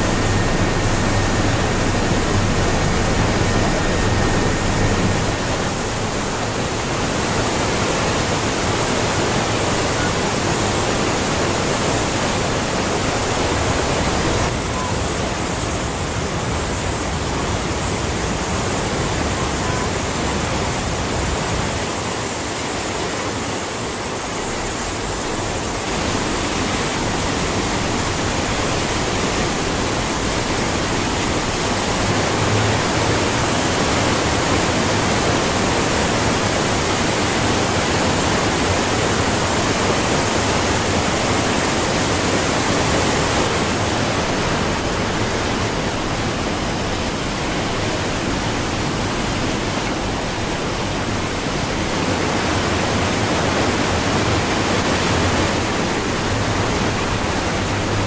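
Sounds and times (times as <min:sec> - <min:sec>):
loud rush of falling water: 0:00.0 - 0:58.0.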